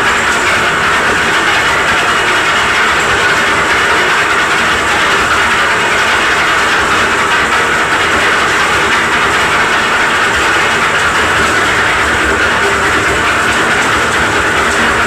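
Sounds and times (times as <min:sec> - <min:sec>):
concrete mixer running: 0:00.0 - 0:15.0.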